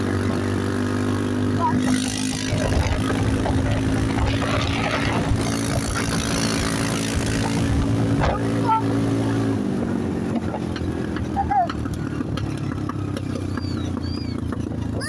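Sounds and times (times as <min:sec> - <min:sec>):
vehicle engine at high speed: 0:00.0 - 0:15.0
wind and tyre noise: 0:00.0 - 0:15.0.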